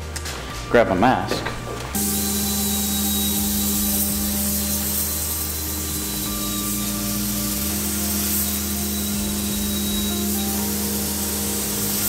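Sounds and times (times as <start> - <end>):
steady low hum: 1.8 - 12.0
air spray gun hissing: 2.0 - 12.0.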